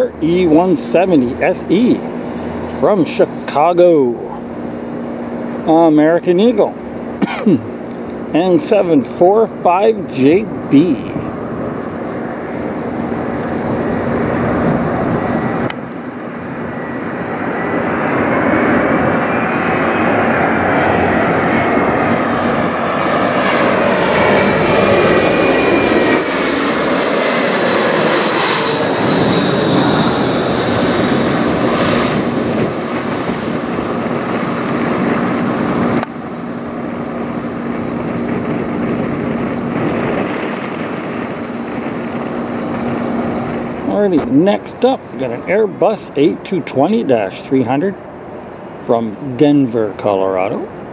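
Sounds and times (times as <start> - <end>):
high engine whine: 0.0 - 50.9
jet passing overhead: 0.0 - 50.9.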